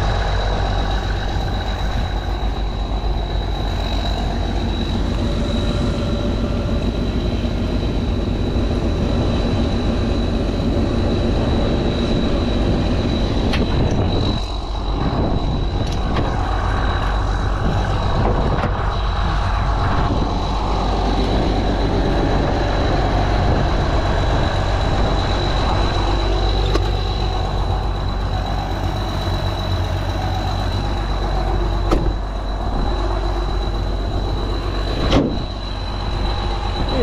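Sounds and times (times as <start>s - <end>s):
diesel engine idling: 0.0s - 37.0s
high-pitched whine: 0.0s - 37.0s.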